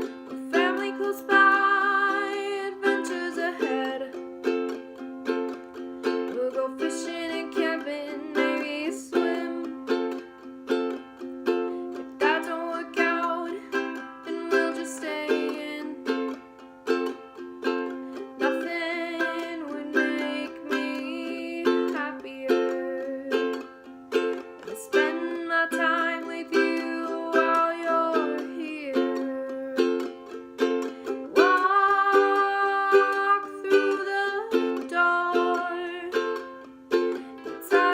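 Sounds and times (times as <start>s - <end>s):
acoustic string instrument strumming: 0.0s - 37.9s.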